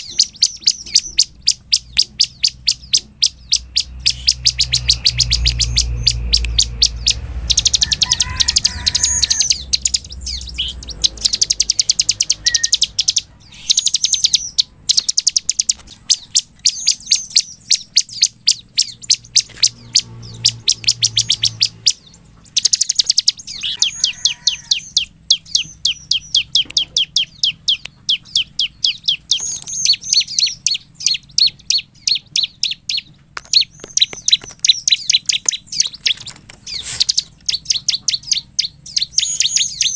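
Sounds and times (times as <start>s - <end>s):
bird singing sharp repeated notes: 0.0s - 39.9s.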